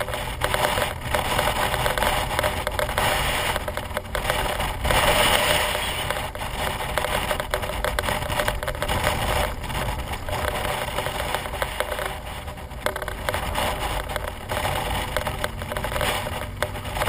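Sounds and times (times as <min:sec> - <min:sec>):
knocks and rattles from road: 0:00.0 - 0:17.0
motorcycle engine running: 0:00.0 - 0:17.0
wind noise on microphone: 0:00.0 - 0:17.0.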